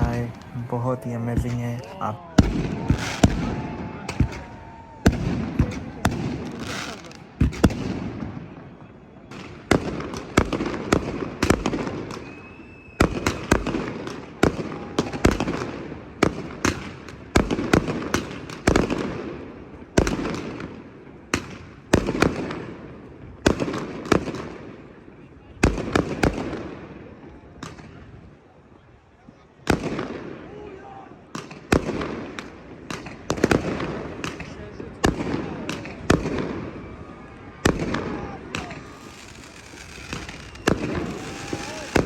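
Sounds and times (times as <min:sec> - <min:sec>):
fireworks exploding with echo: 0:00.0 - 0:42.0.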